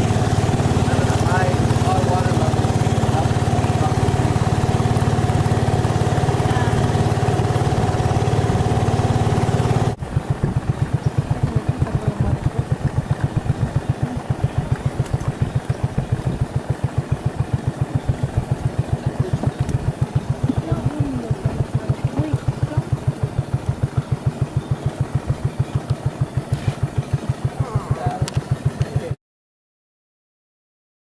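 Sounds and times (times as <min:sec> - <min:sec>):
engine running steadily: 0:00.0 - 0:29.2
engine throbbing: 0:00.0 - 0:29.2.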